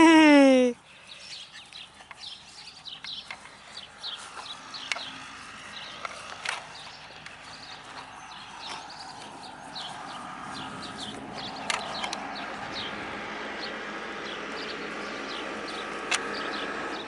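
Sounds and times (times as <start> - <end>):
small birds chirping: 0.1 - 17.0
footsteps on dry grass: 0.9 - 16.5.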